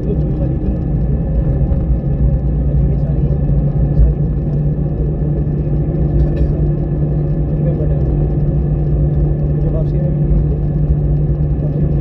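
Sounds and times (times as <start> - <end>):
airliner engine rumble: 0.0 - 12.0.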